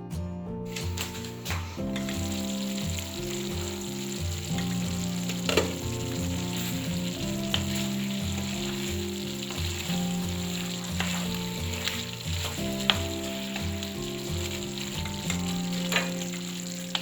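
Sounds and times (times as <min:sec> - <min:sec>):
guitar music: 0:00.0 - 0:17.0
curry sizzling in a pan: 0:00.7 - 0:17.0.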